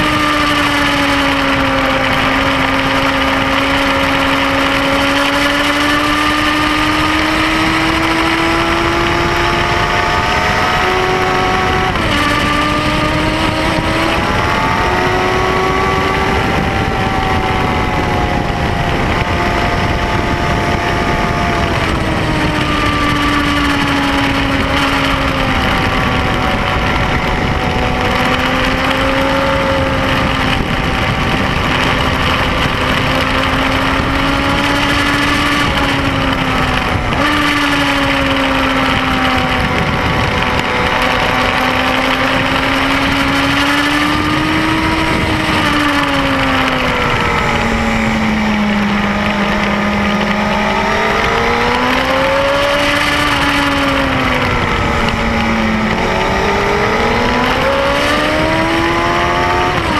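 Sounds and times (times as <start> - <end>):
motorcycle engine running hard: 0.0 - 59.9
wind noise: 0.0 - 59.9.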